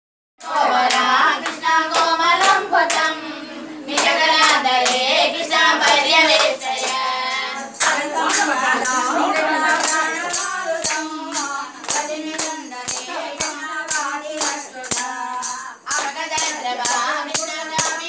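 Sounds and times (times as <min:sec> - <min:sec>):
hands clapping in rhythm: 0:00.4 - 0:18.0
women singing a devotional song: 0:00.4 - 0:18.0.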